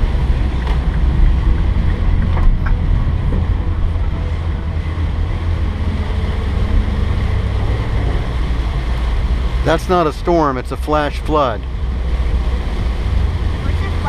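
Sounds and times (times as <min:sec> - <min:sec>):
car interior road rumble: 0:00.0 - 0:14.0
wet tyres on road: 0:00.0 - 0:14.0.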